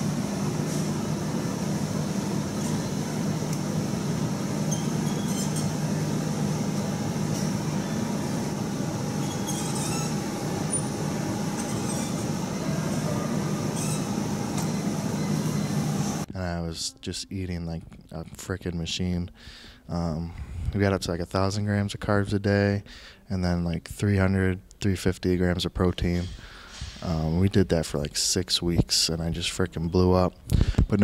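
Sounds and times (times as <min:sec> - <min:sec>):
low room hum: 0:00.0 - 0:31.0.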